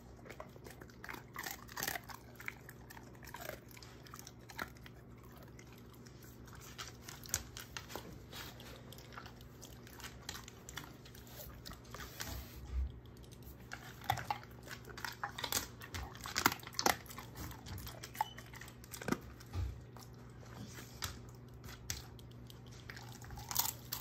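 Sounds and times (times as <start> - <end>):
dog chewing a treat: 0.0 - 24.0.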